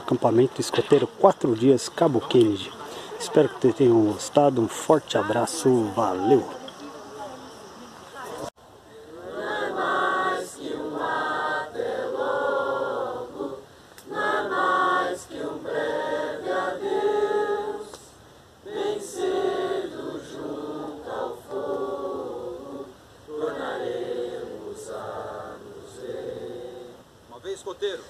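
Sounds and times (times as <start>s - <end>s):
group singing unaccompanied: 0.0s - 7.6s, 8.3s - 27.3s.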